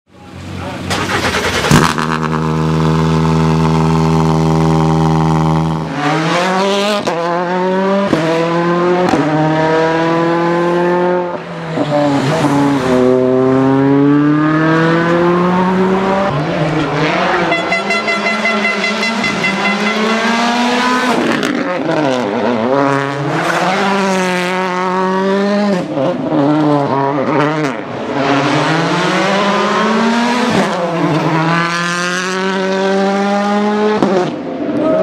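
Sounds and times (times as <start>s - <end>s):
rally car engine revving: 0.4s - 35.0s.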